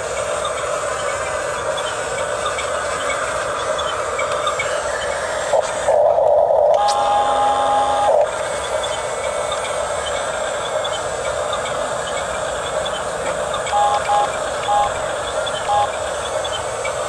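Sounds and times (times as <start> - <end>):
higher motor whir: 0.0 - 17.0
toy bulldozer motors whirring: 0.0 - 17.0.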